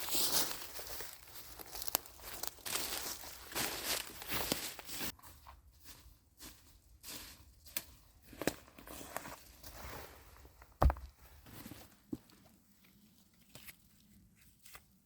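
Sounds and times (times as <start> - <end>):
footsteps crunching on forest floor: 0.0 - 13.0.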